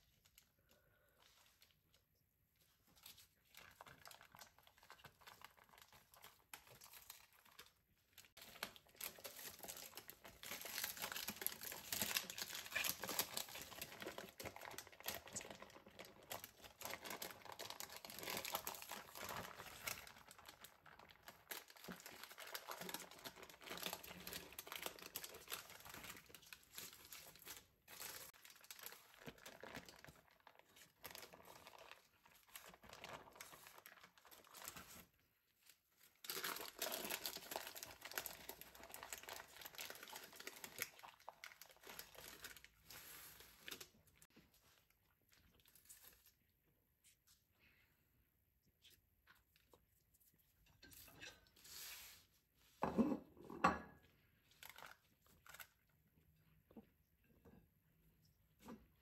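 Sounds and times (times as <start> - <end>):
parchment paper crinkling: 0.0 - 46.5, 54.4 - 56.0.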